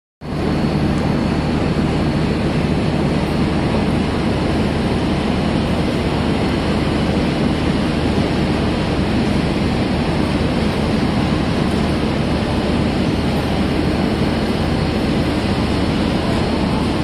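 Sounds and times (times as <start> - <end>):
train wheels on rail: 0.2 - 17.0.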